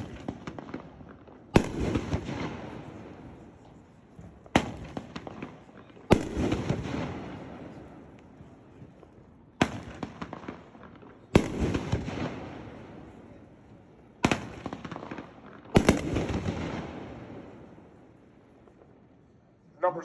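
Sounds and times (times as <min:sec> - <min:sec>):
crackling firework pops: 0:00.0 - 0:13.2, 0:14.2 - 0:17.1
firework bangs: 0:00.0 - 0:19.0.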